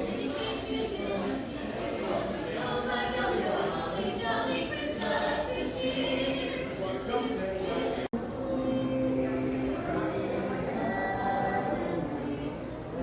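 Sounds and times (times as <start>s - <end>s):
crowd chatter: 0.0s - 13.0s
group singing carols: 0.0s - 13.0s.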